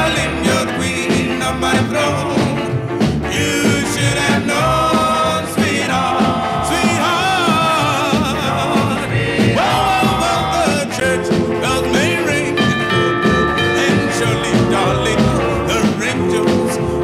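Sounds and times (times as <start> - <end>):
person singing rock and roll: 0.0 - 17.0
rock band playing: 0.0 - 17.0.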